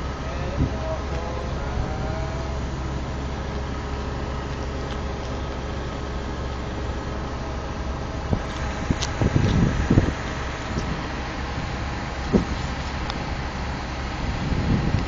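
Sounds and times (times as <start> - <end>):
crane engine humming: 0.0 - 15.0.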